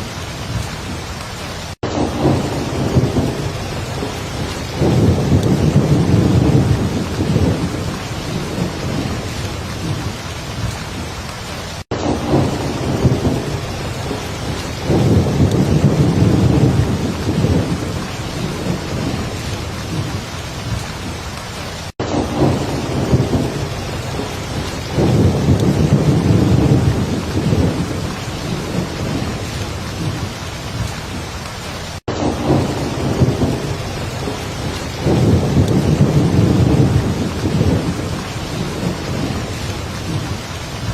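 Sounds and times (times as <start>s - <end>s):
deep thunder rumbles: 0.0s - 11.1s, 12.0s - 21.3s, 22.0s - 40.9s
heavy rain pouring: 0.0s - 40.9s.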